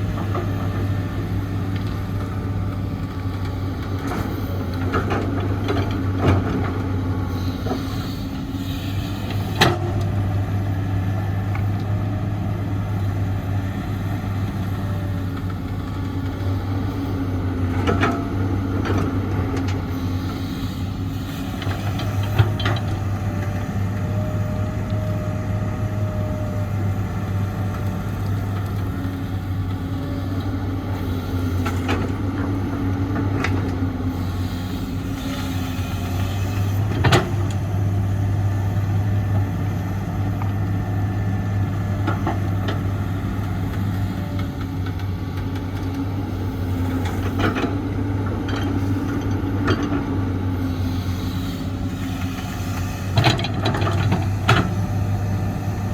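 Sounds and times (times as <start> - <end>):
diesel excavator engine hum: 0.0 - 55.9.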